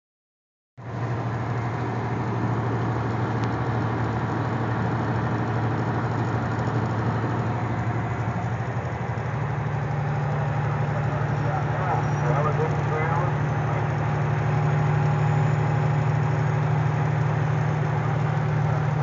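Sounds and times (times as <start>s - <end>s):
vehicle engine humming: 0.8s - 19.0s.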